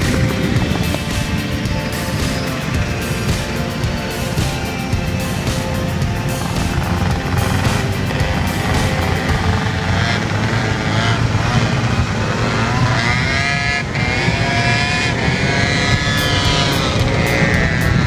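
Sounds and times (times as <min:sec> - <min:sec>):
motor scooter engines: 0:00.0 - 0:18.0
wind rumble on microphone: 0:00.0 - 0:18.0.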